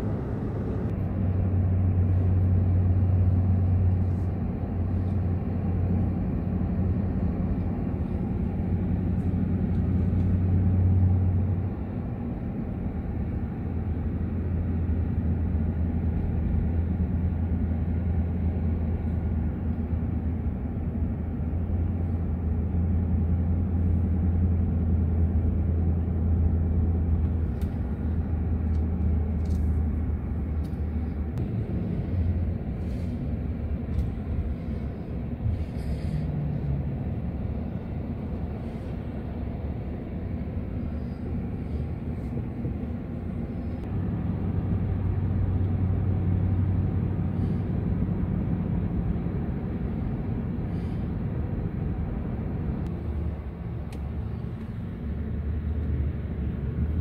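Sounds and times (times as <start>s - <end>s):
car engine and tyres rumbling: 0.0s - 57.0s
deep drone: 0.0s - 57.0s.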